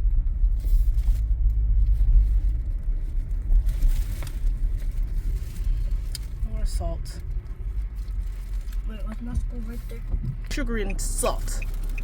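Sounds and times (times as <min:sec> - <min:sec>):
car driving interior rumble: 0:00.0 - 0:12.0.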